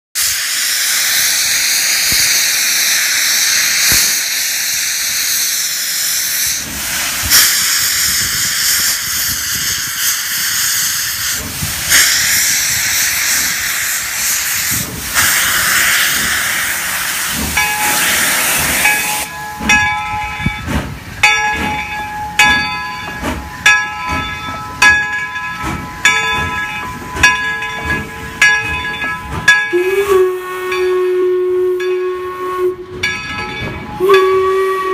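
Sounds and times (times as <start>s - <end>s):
steam exhaust chuffs: 0.2s - 34.9s
steam locomotive venting steam: 0.2s - 34.9s.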